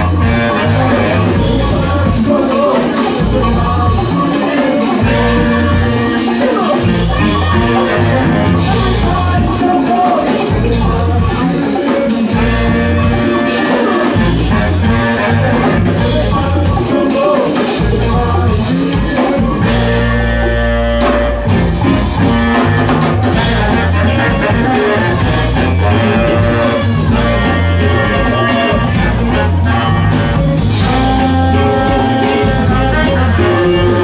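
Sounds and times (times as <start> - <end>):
live band playing groove: 0.0 - 34.0.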